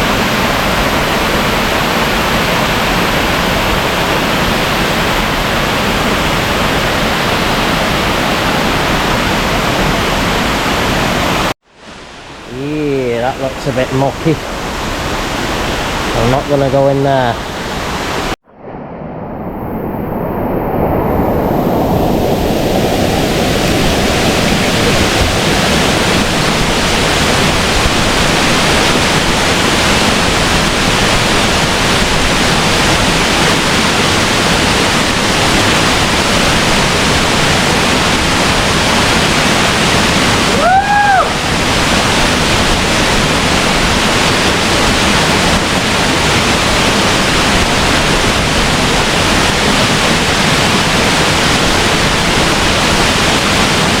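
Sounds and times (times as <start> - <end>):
waterfall rushing: 0.0 - 18.4, 21.3 - 54.0.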